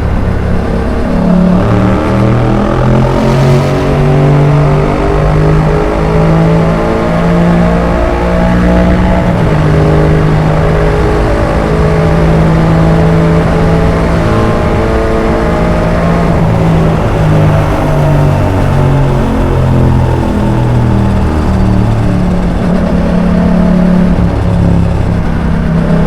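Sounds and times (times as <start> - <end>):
motorcycle engine at road speed: 0.0 - 26.0.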